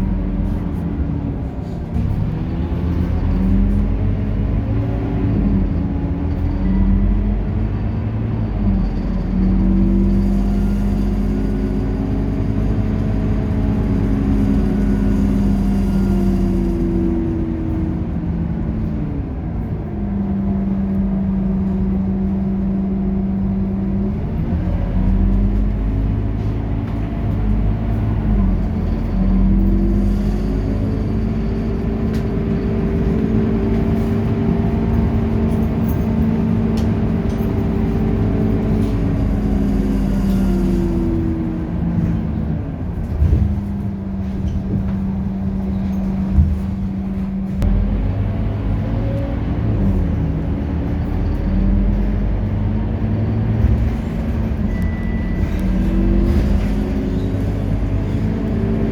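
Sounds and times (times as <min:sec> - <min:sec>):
bus engine running: 0:00.0 - 0:58.9.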